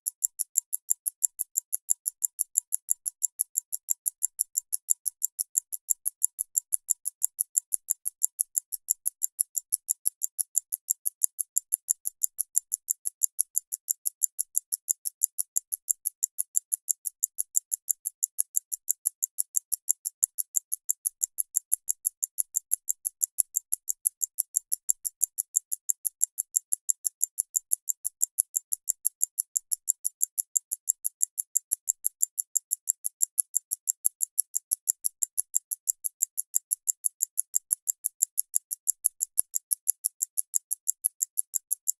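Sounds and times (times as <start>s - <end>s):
pocket watch ticking: 0.0s - 42.0s.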